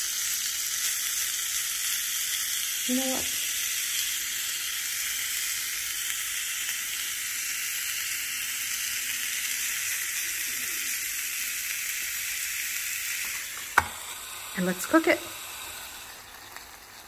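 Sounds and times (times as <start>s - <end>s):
bacon sizzling: 0.0s - 17.0s.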